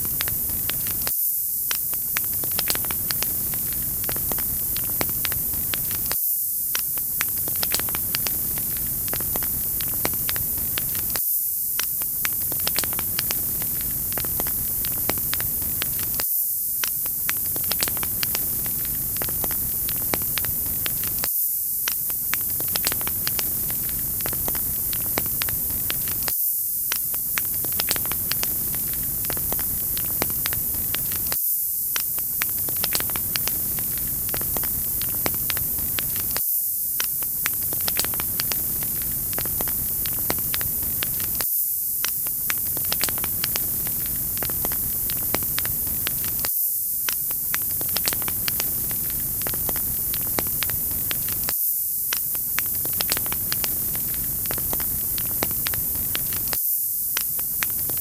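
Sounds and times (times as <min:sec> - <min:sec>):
wood fire crackling: 0:00.0 - 0:01.1, 0:01.7 - 0:11.2, 0:11.8 - 0:16.2, 0:16.8 - 0:26.3, 0:26.9 - 0:36.4, 0:37.0 - 0:41.4, 0:42.0 - 0:51.5, 0:52.1 - 0:56.6, 0:57.2 - 0:58.0.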